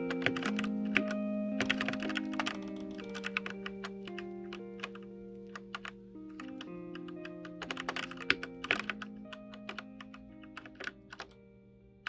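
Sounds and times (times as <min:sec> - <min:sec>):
mechanical keyboard key clicks: 0:00.0 - 0:11.4
background music with held notes: 0:00.0 - 0:12.0.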